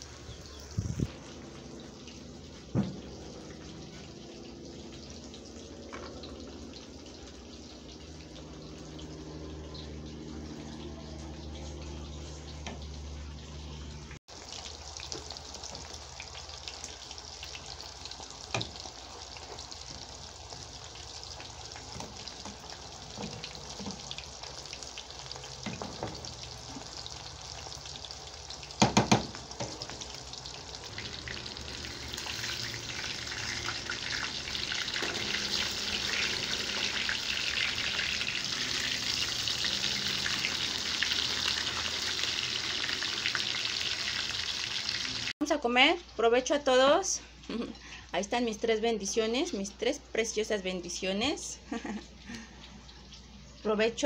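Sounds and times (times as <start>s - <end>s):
chicken sizzling in oil: 0.0s - 45.4s.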